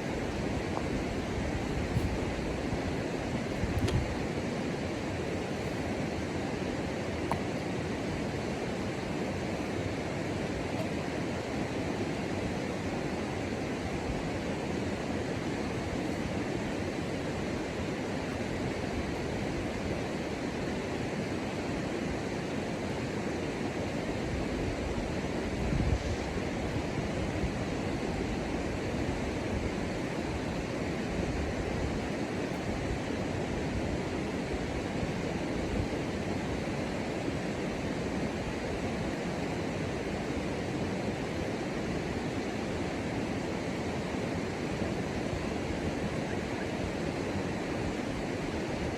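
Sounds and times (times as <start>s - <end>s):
outdoor ambience rushing noise: 0.0s - 48.9s.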